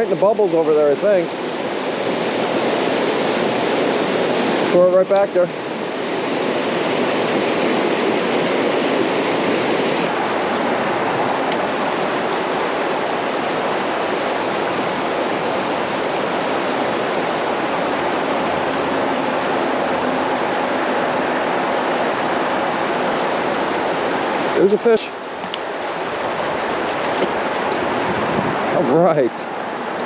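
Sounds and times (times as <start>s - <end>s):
water rushing over rocks: 0.0s - 30.0s.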